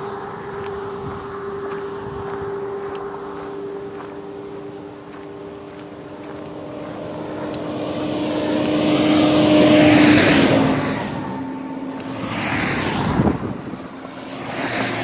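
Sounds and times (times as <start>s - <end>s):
truck passing by: 0.0s - 15.0s.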